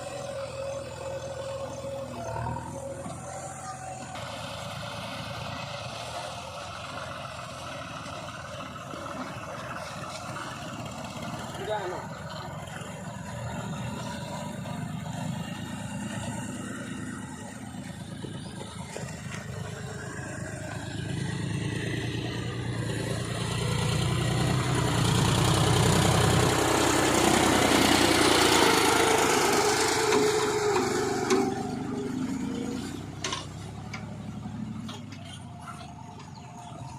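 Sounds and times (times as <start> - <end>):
diesel engine revving: 0.0 - 36.9.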